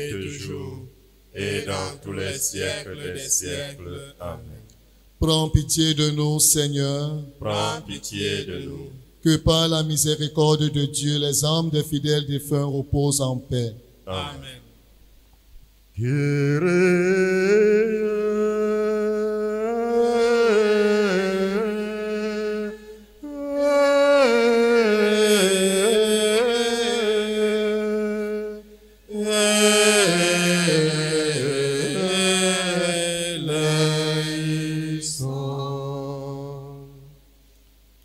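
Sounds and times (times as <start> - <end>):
hymn singing: 0.0 - 14.8, 16.0 - 37.3.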